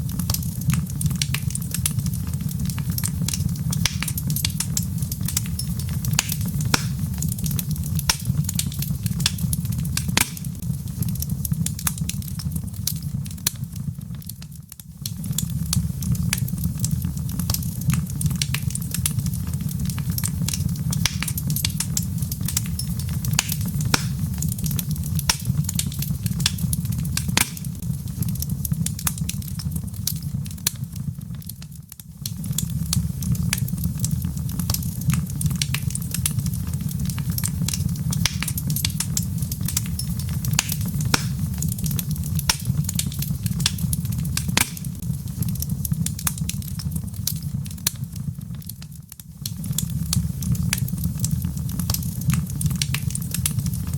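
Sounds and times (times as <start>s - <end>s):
log fire crackling and popping: 0.0s - 53.9s.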